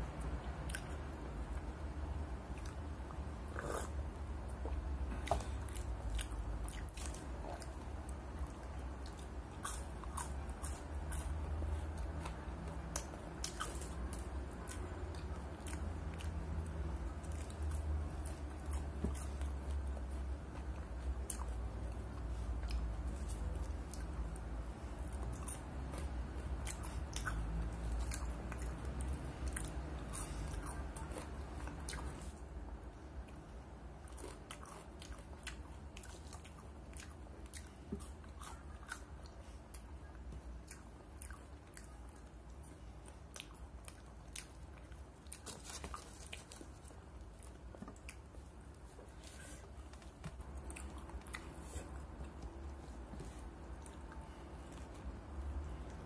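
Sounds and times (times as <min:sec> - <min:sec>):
person chewing crunchy fries: 0:02.4 - 0:32.5, 0:33.2 - 0:56.0.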